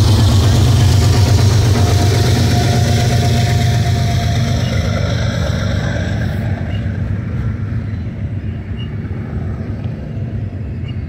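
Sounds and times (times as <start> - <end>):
diesel locomotive engine: 0.0 - 11.0
freight train rolling on rails: 0.0 - 11.0.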